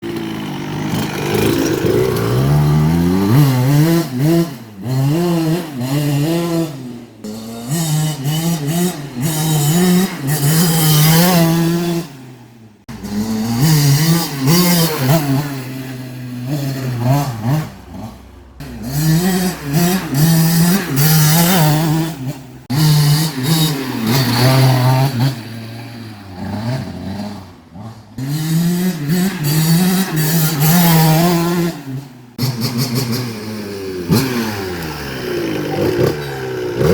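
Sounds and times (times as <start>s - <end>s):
two-stroke engine revving: 0.0s - 36.9s.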